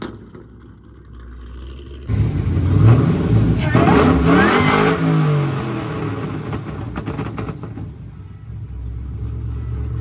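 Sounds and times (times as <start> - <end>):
car engine revving: 1.2 - 10.0.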